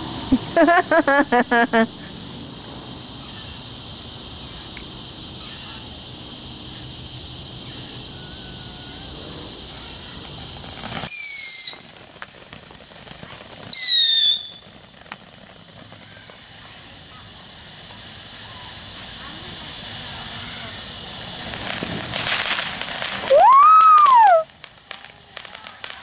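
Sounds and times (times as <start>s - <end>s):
firework high whistles: 0.0s - 26.0s
firework hissing: 0.0s - 26.0s.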